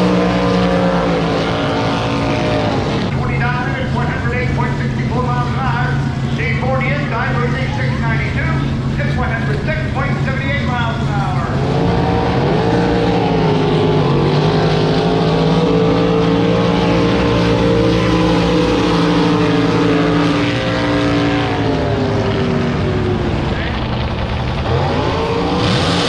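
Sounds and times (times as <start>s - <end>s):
boat engine running loudly: 0.0s - 26.0s.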